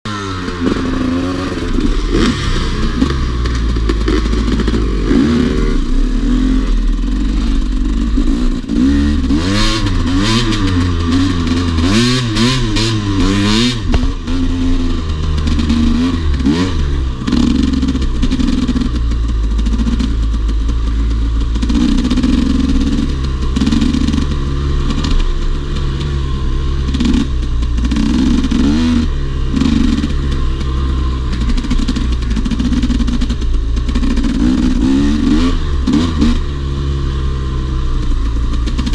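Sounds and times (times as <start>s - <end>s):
dirt bike engine revving: 0.1s - 38.9s.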